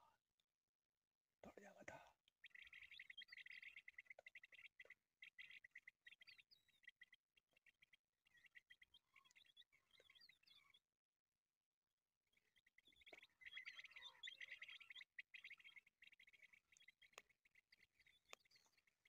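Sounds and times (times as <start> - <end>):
birds chirping rapidly: 1.4 - 10.8, 12.3 - 19.0.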